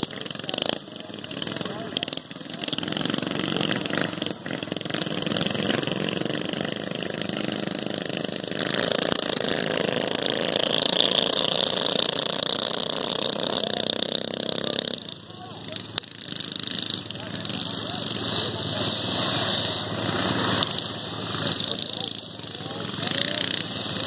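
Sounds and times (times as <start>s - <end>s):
minibike engine running: 0.0s - 24.0s.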